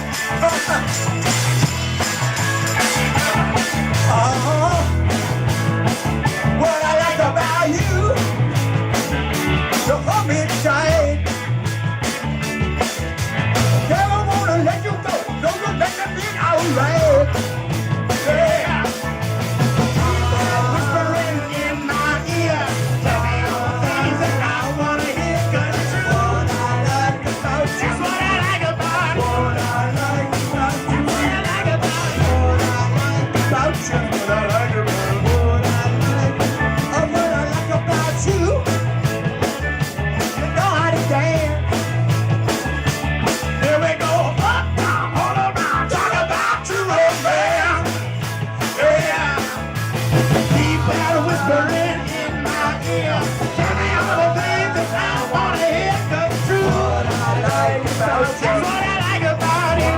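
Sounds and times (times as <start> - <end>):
drum kit cymbal beat: 0.0 - 59.9
live rock band playing: 0.0 - 59.9.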